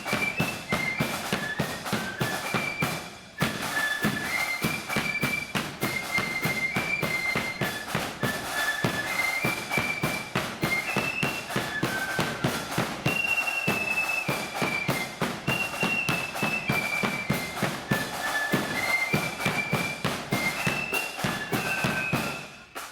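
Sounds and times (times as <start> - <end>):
flutes playing melody: 0.0 - 22.9
snare drum beats: 0.0 - 22.9.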